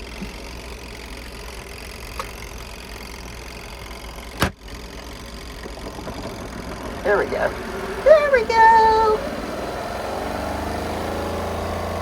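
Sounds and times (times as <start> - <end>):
spin dryer motor hum: 0.0 - 12.0.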